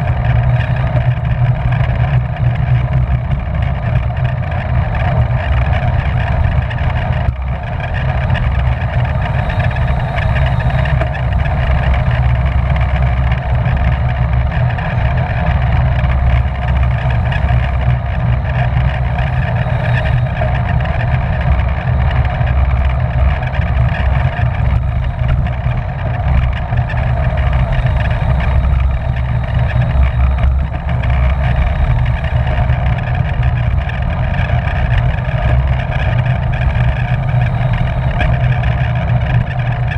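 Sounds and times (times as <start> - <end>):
bicycle tyres and drivetrain hum: 0.0 - 39.9
wind rumbling on microphone: 0.0 - 39.9.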